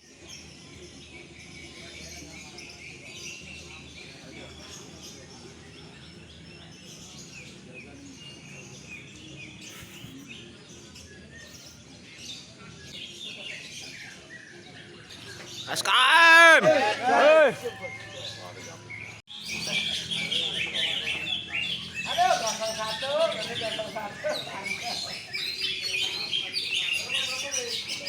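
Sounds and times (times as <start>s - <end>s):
songbirds chirping and singing: 0.0s - 28.0s.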